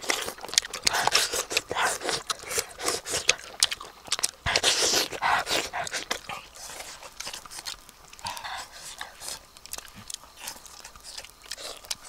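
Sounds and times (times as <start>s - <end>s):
people sucking and chewing fish: 0.0s - 12.0s
wet lip-smacks: 0.0s - 12.0s.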